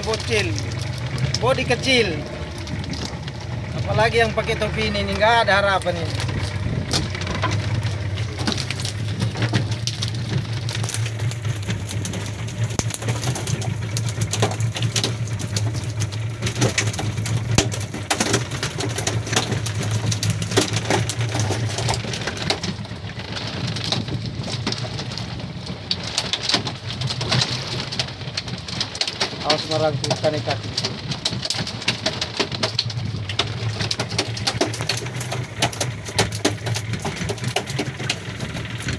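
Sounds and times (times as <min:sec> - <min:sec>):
boat engine running: 0:00.0 - 0:38.9
knocks and rattles: 0:00.0 - 0:38.9.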